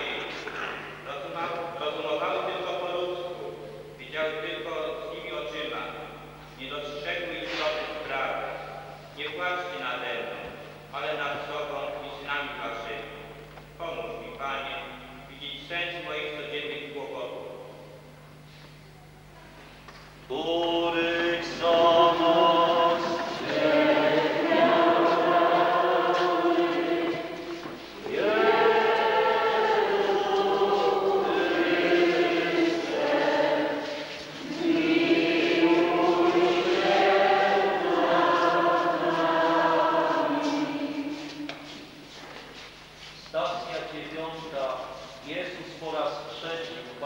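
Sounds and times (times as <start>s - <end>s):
congregation singing a hymn: 0.0s - 17.4s, 20.3s - 42.7s.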